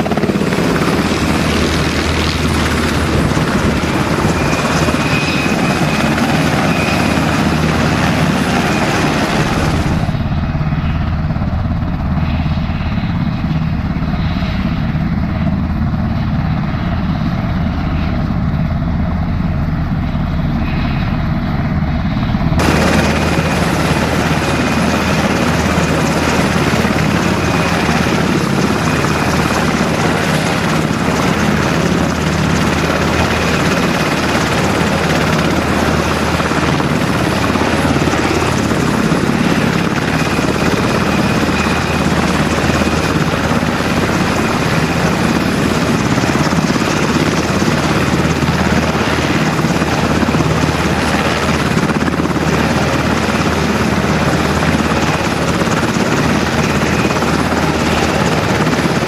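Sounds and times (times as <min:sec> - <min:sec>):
helicopter rotor noise: 0:00.0 - 0:59.0
high turbine engine whine: 0:00.0 - 0:59.0.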